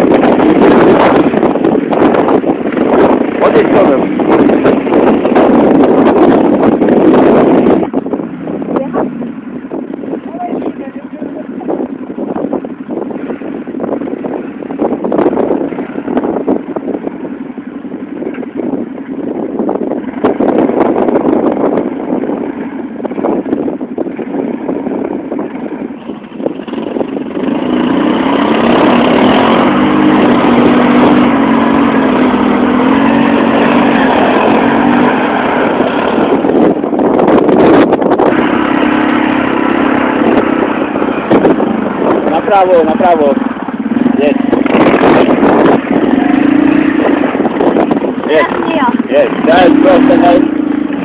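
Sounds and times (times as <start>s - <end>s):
quad bike engine revving: 0.0s - 18.8s, 19.8s - 51.0s
wind buffeting microphone: 0.0s - 51.0s.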